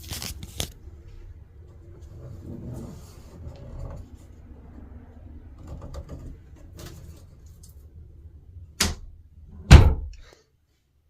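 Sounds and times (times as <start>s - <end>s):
low rumbling handling noise: 0.0s - 10.3s.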